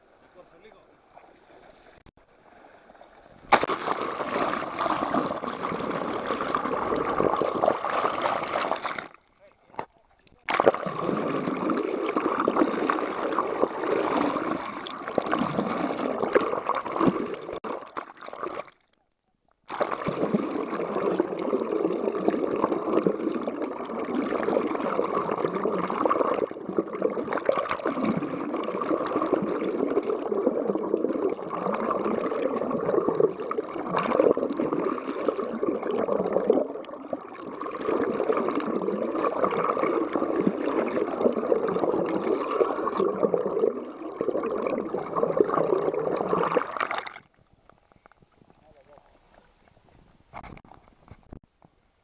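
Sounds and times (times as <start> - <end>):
underwater rushing and gurgling: 1.0 - 9.2, 10.5 - 18.8, 19.7 - 48.6.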